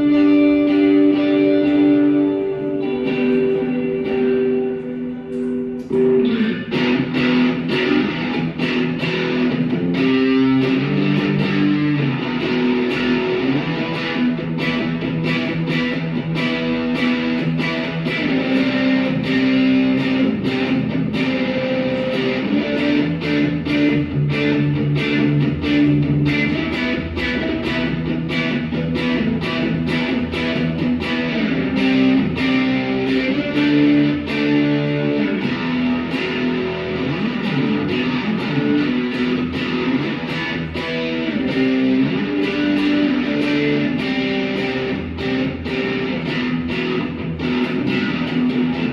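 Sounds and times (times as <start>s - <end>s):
strummed guitar music: 0.0s - 48.9s.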